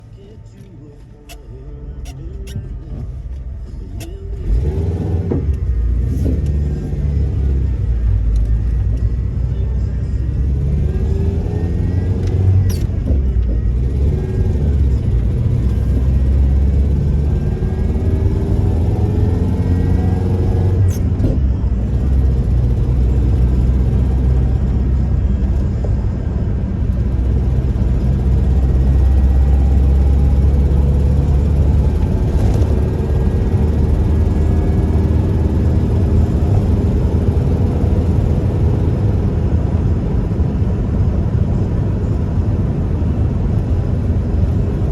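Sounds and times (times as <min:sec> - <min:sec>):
truck engine and road rumble: 0:00.0 - 0:44.9.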